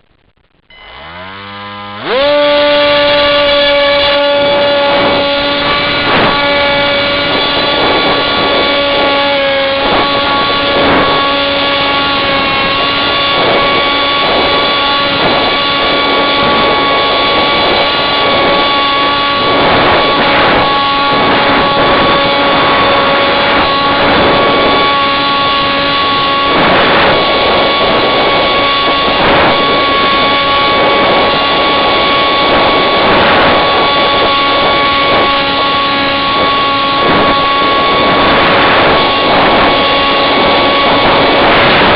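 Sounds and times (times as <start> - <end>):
model plane motor whining: 0.7 - 41.9.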